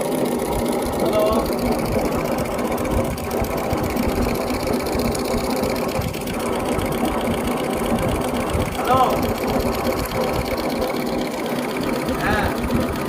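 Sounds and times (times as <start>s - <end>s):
coil winding machine humming: 0.0s - 13.0s.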